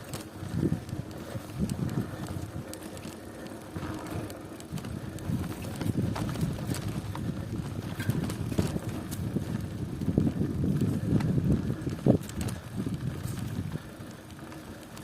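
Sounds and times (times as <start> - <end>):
bicycle clicks and rattles: 0.0 - 15.0
bicycle rolling rumble: 0.0 - 15.0.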